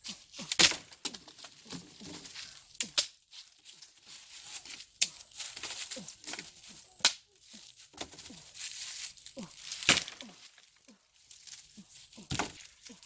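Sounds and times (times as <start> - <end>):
dry vegetation rustling: 0.0 - 13.0.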